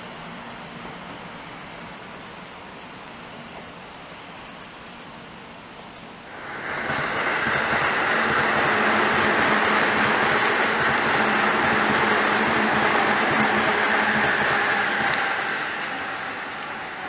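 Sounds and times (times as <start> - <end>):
electric train passing: 0.0 - 17.0
rain ambience hiss: 0.0 - 17.0.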